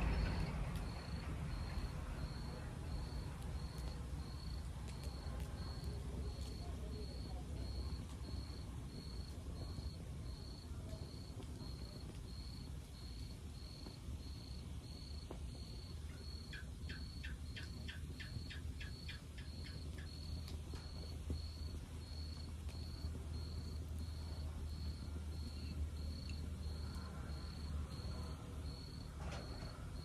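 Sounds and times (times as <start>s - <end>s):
cricket chirping: 0.0s - 30.0s
log fire rumbling and popping: 0.0s - 30.0s.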